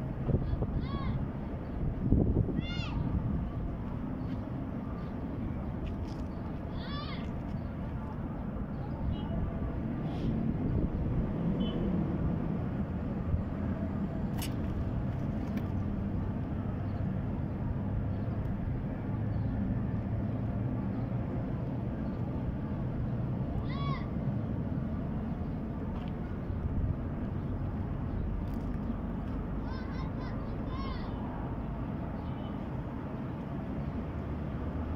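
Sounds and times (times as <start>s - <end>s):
low rumbling background noise: 0.0s - 34.9s.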